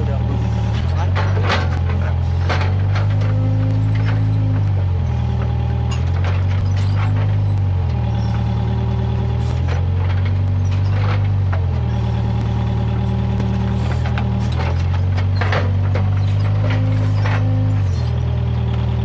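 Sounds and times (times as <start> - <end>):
diesel engine running hard: 0.0 - 19.0.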